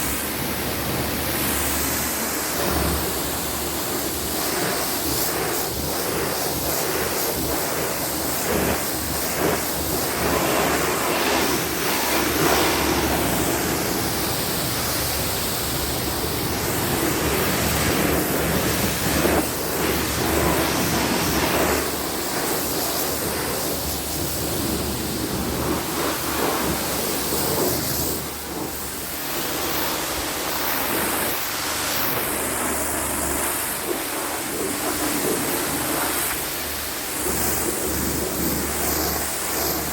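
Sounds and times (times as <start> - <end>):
pressure washer spray hissing: 0.0 - 39.9.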